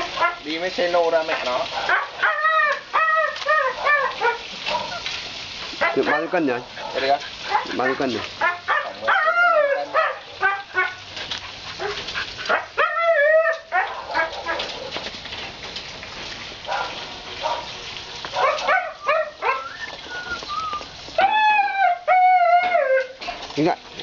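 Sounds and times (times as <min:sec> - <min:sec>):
dogs yipping and whining: 0:01.4 - 0:15.1, 0:16.7 - 0:23.4.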